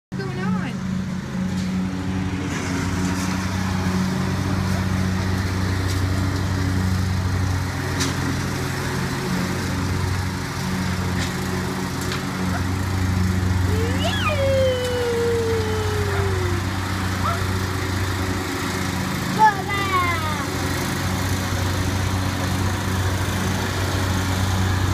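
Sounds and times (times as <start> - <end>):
lawn tractor engine running: 0.2 - 24.9.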